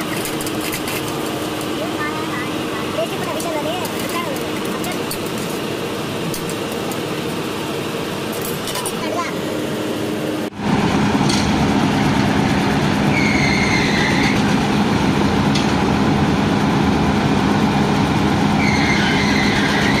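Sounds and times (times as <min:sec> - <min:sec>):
engine-like drone: 0:00.0 - 0:20.0.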